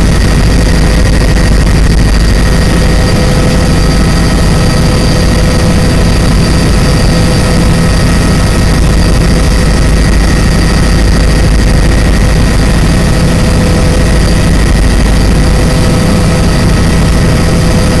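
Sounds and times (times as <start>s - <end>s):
aircraft engine in cabin: 0.0s - 18.0s
steady whining tones: 0.0s - 18.0s.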